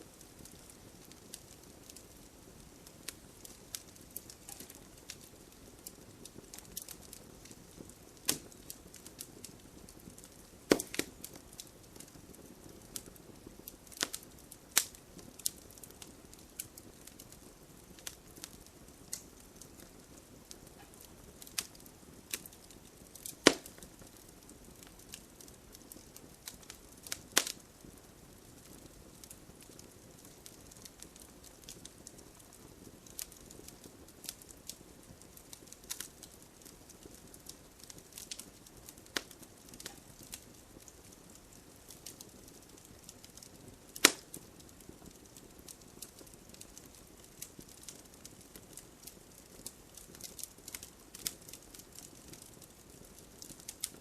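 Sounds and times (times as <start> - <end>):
campfire crackling and hissing: 0.0 - 54.0
sharp fire pops: 0.2 - 28.0, 28.6 - 54.0.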